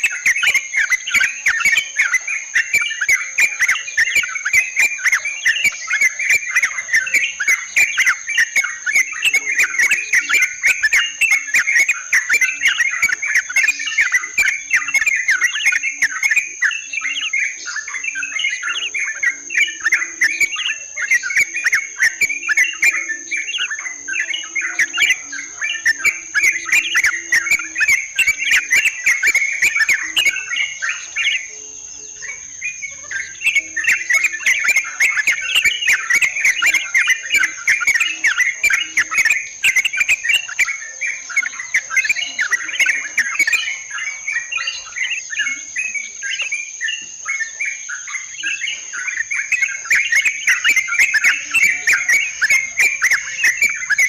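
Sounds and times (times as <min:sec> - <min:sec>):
birds singing and chattering: 0:00.0 - 0:54.0
high-pitched insect-like whine: 0:00.0 - 0:54.0.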